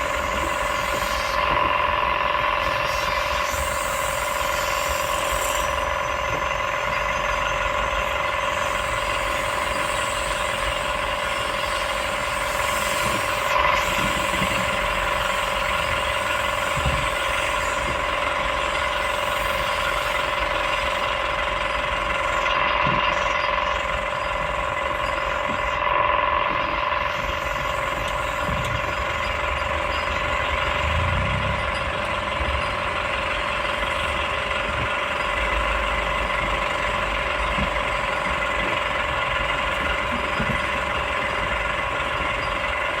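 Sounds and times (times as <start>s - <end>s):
excavator engine drone: 0.0s - 43.0s
hydraulic whine: 0.0s - 43.0s.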